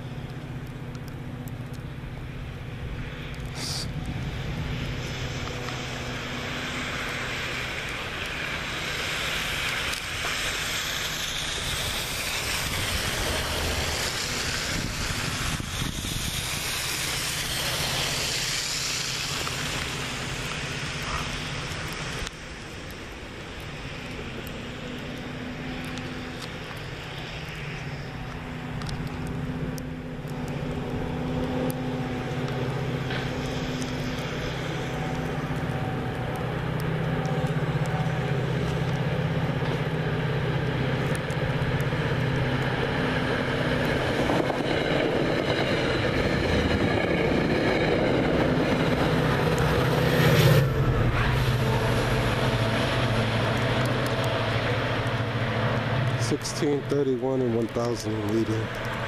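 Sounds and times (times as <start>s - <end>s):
diesel locomotive engine drone: 0.0s - 59.0s
train passing rush: 0.0s - 59.0s.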